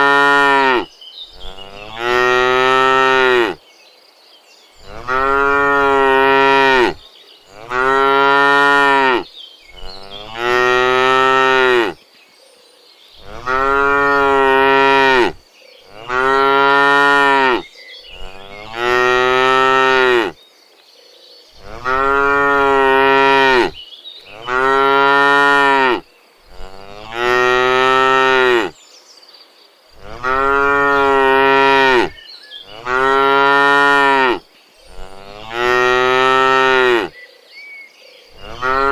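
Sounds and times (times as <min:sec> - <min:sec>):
cows mooing: 0:00.0 - 0:03.6, 0:04.9 - 0:09.2, 0:09.8 - 0:12.0, 0:13.2 - 0:17.6, 0:18.2 - 0:20.4, 0:21.6 - 0:28.7, 0:30.0 - 0:37.1, 0:38.4 - 0:38.9.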